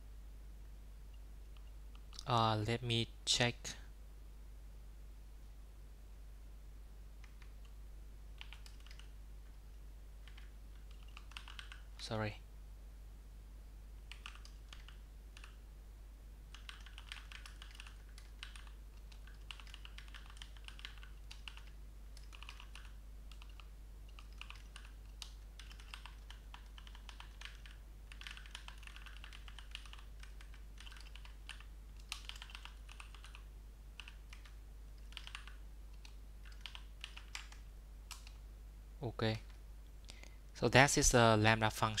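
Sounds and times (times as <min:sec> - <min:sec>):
faint low hum: 0:00.0 - 0:42.0.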